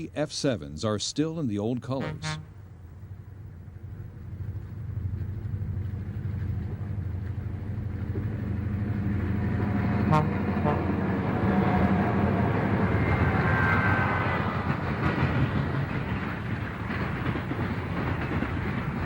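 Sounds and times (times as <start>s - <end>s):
diesel locomotives droning: 0.0s - 19.0s.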